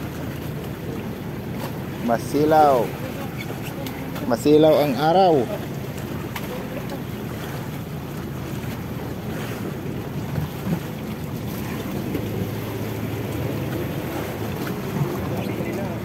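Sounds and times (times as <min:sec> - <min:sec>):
sea wash: 0:00.0 - 0:16.0.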